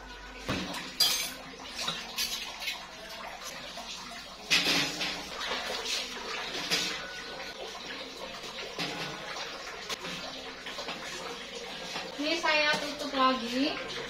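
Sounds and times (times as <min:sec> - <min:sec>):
donuts sizzling in hot oil: 0:00.0 - 0:14.0.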